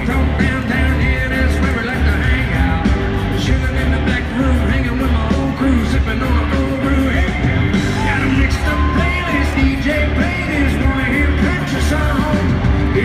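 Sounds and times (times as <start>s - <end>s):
live country-rock band: 0.0s - 13.0s
person singing: 0.0s - 13.0s
pounding bass beat: 0.0s - 13.0s.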